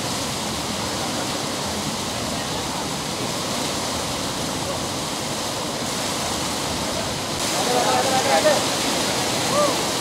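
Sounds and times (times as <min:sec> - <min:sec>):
water rushing under sluice gate: 0:00.0 - 0:10.0.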